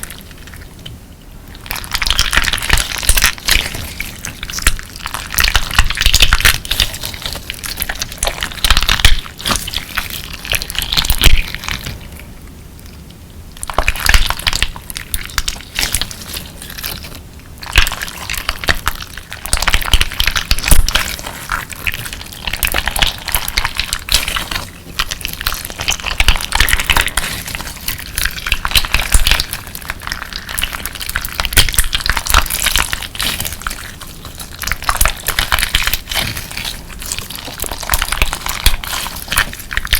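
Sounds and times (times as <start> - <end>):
slime crackling and crunching: 0.0 - 12.4, 13.6 - 39.9.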